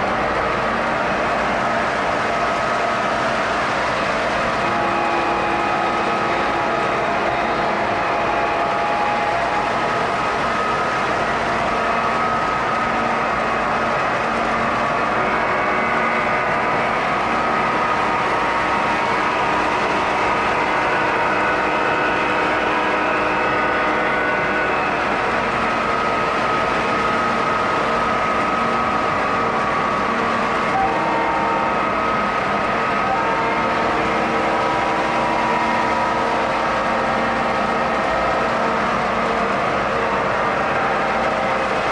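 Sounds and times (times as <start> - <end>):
model train running on track: 0.0 - 41.9.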